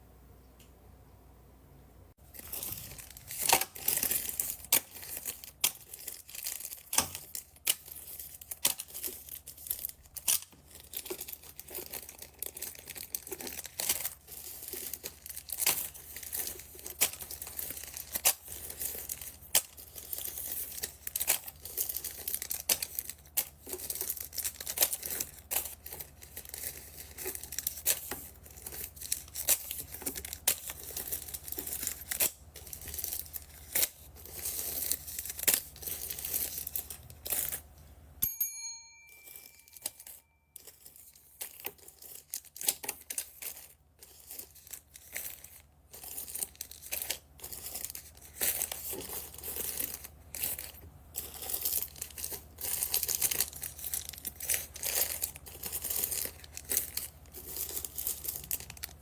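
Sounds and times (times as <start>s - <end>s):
plastic packaging crinkling and tearing: 2.2s - 37.8s, 39.4s - 59.0s.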